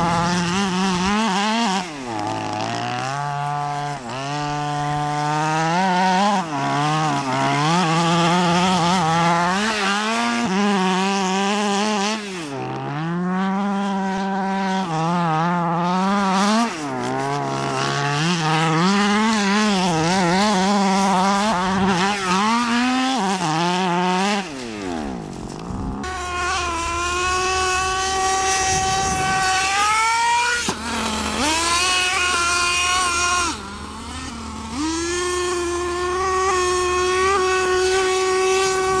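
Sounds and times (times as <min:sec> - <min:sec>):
small two-stroke engine revving: 0:00.0 - 0:39.0.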